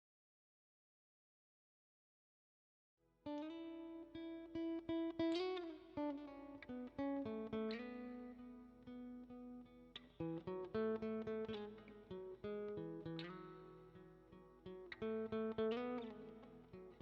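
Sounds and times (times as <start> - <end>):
plucked guitar notes: 3.3 - 17.0.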